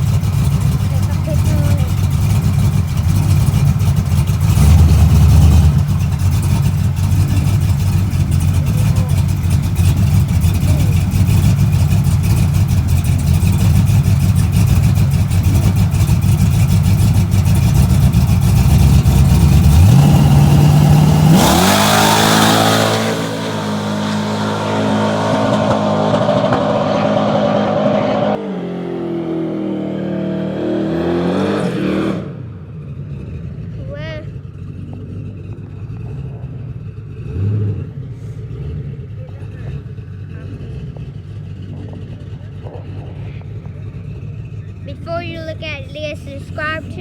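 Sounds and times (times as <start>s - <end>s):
drag racing truck engine: 0.0s - 47.0s.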